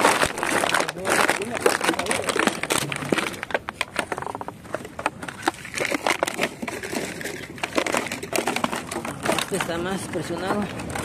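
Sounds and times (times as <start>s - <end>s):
plastic bottles crinkling: 0.0s - 11.0s.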